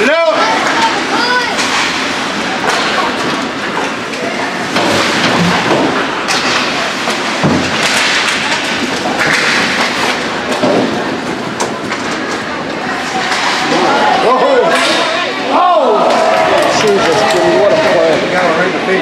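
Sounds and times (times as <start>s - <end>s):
spectators' voices: 0.0s - 19.0s.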